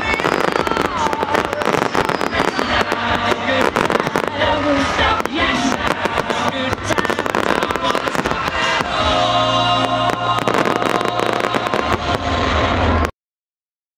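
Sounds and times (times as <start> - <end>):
fireworks bangs and crackles: 0.0 - 13.1
loud music: 0.0 - 13.1.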